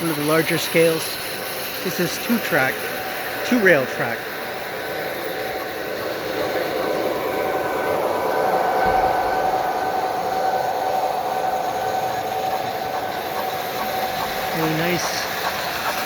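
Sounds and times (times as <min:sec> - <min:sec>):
model train whine: 0:00.0 - 0:16.0
train wheels rolling on track: 0:00.0 - 0:16.0.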